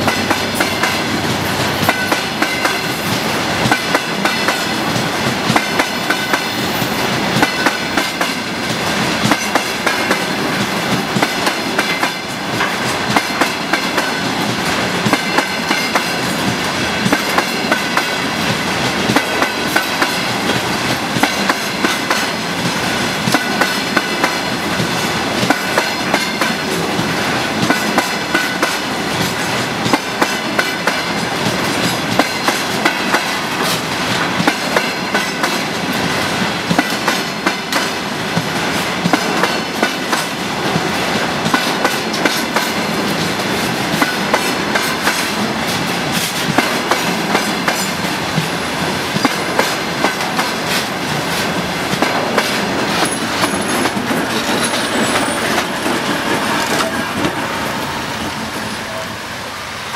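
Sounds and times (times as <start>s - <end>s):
train rumble: 0.0s - 59.9s
train wheels clacking on rails: 0.0s - 59.9s.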